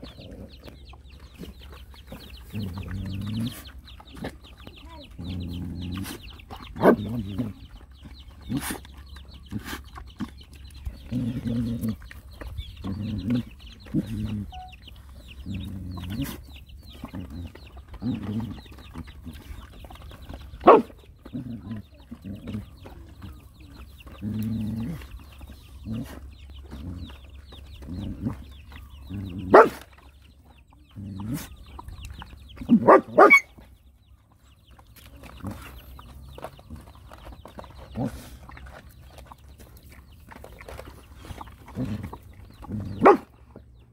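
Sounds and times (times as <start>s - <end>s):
hen clucking: 0.0s - 43.9s.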